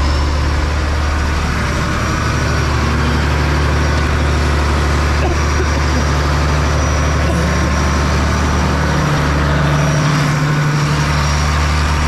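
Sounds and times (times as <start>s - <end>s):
tractor diesel engine drone: 0.0s - 12.0s.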